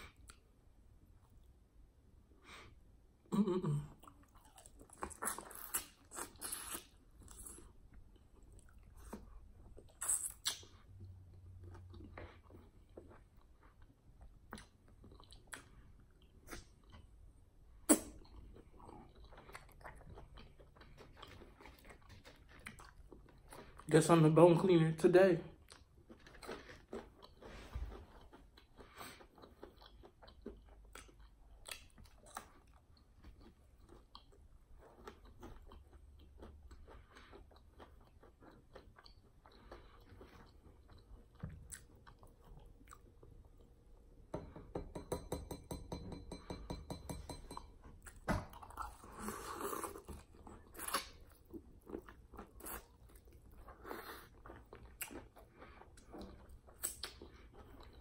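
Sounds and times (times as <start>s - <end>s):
chewing and crunching fried chicken: 3.8s - 17.4s, 18.2s - 43.9s, 48.0s - 58.0s.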